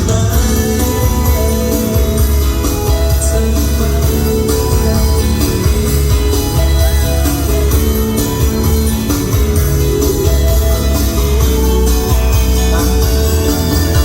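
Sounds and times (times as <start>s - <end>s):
guitar: 0.0s - 14.0s
heavy steady bass: 0.0s - 14.0s.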